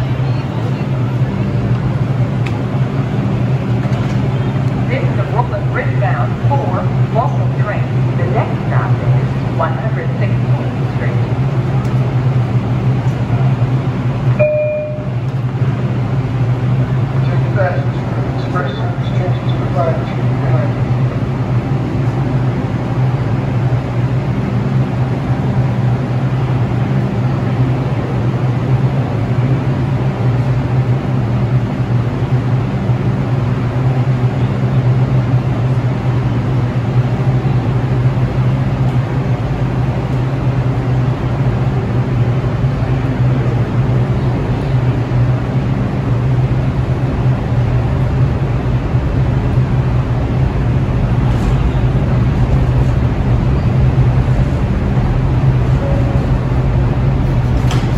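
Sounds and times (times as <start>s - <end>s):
constant low hum: 0.0s - 57.9s
subway train rumble: 0.0s - 57.9s.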